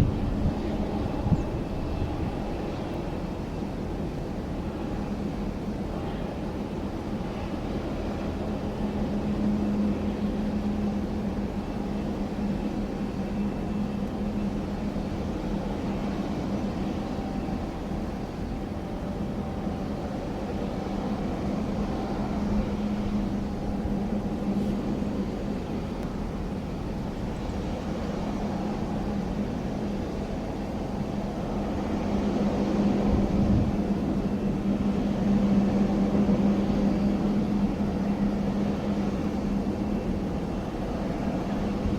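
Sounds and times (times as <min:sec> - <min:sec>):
jet engine drone: 0:00.0 - 0:41.9.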